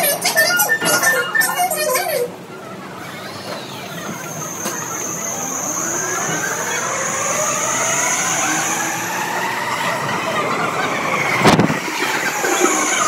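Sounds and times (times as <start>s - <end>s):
electric train running noise: 0.0s - 13.0s
steady high tone: 0.0s - 13.0s
train whine in gliding tones: 0.0s - 13.0s.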